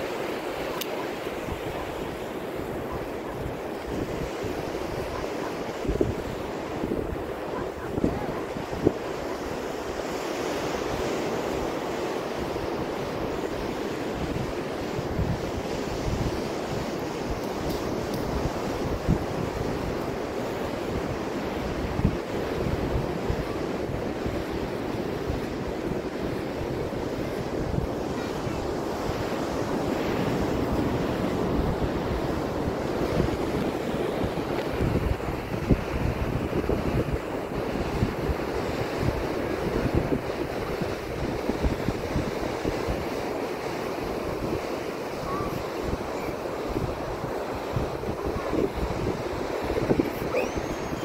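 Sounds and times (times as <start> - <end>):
surf breaking on beach: 0.0 - 51.0
wind buffeting microphone: 0.6 - 51.0.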